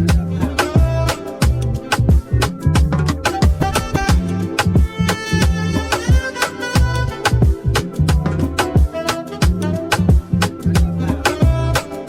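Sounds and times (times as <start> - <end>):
upbeat music with bass line: 0.0 - 12.0.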